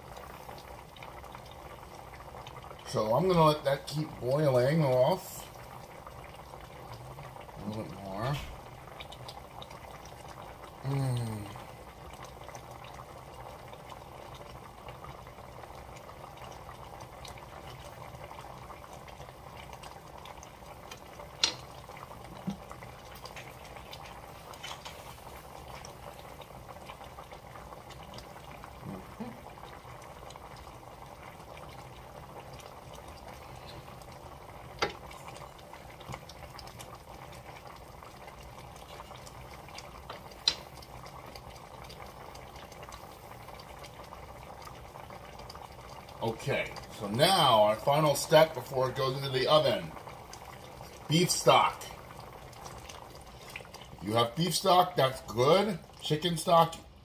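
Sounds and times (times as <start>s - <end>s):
wine bubbling in a pan: 0.0s - 57.0s.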